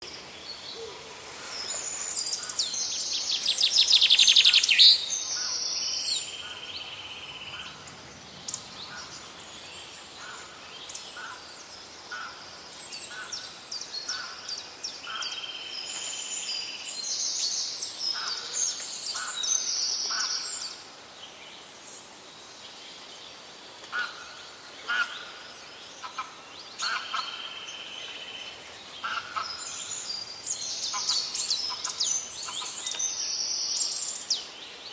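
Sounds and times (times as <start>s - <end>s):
birds singing and chirping: 0.0s - 34.9s.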